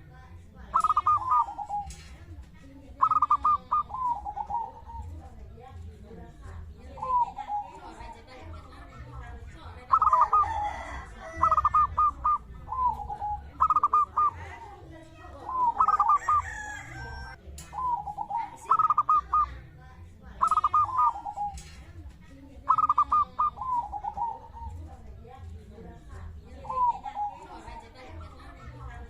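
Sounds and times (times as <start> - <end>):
dove cooing: 0.7 - 5.4, 6.8 - 19.6, 20.4 - 22.0, 22.6 - 25.5, 26.5 - 29.0.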